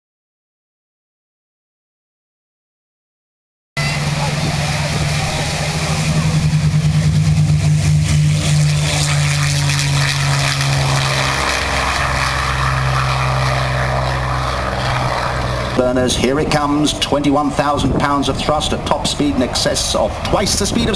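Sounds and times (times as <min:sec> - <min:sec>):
aircraft engine droning: 0:03.8 - 0:20.9.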